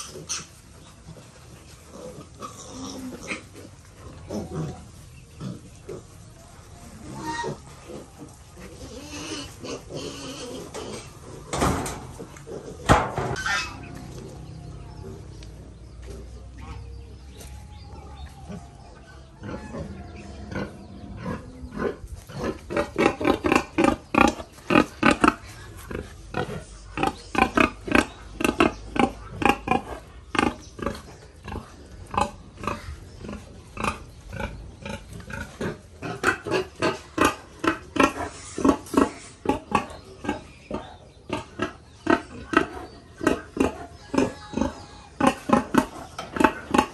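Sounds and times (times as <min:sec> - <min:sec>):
pigs calling: 0:00.0 - 0:46.9.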